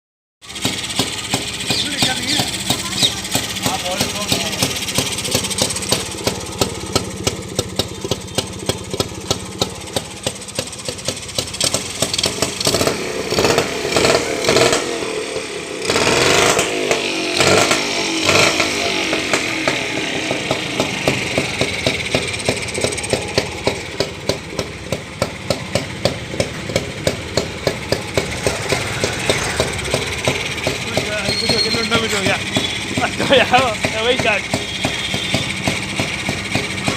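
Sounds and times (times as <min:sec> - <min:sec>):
motorcycle engine idling and revving: 0:00.4 - 0:36.9.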